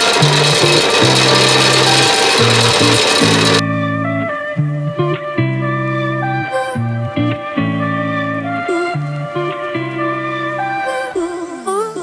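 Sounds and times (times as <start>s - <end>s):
background music held notes: 0.0s - 11.9s.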